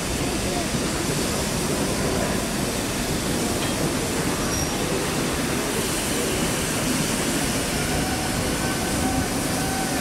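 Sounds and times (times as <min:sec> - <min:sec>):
train rumble and hiss: 0:00.0 - 0:10.0.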